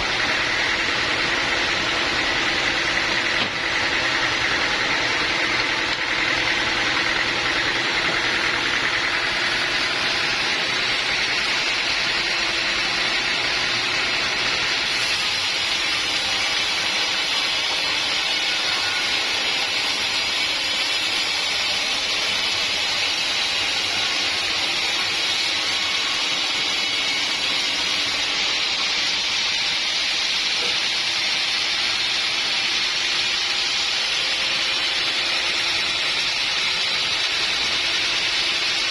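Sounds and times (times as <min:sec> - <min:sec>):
running motor: 0:00.0 - 0:38.9
saw cutting through log: 0:00.0 - 0:38.9.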